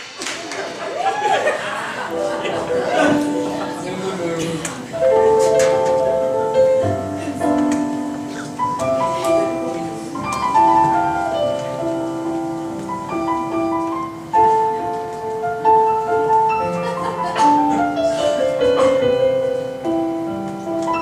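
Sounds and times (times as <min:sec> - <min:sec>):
keyboard melody: 0:02.0 - 0:21.0.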